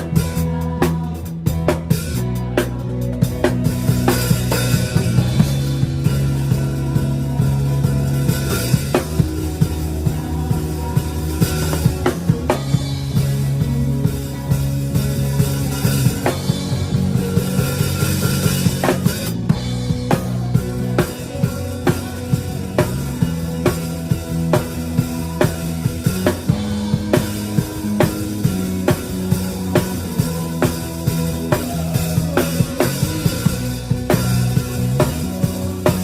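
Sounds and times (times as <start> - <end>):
live band playing worship song: 0.0 - 36.0
sustained bass notes: 0.0 - 36.0.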